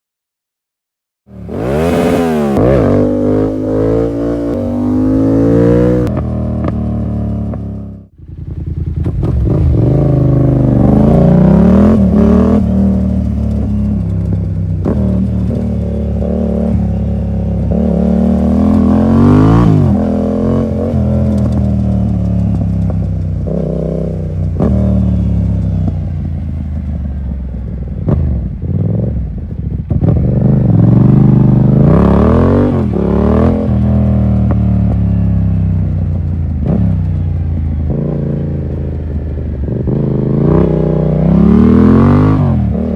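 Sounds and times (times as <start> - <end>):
motorcycle engine revving: 1.3 - 42.9.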